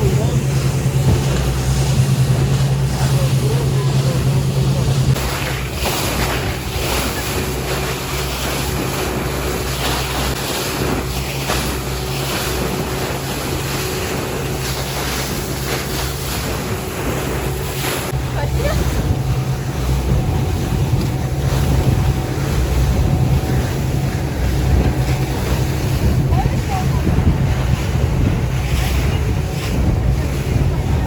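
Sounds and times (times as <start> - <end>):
boat engine droning: 0.0 - 31.0
water rushing past hull: 0.0 - 31.0
wind buffeting microphone: 0.0 - 31.0.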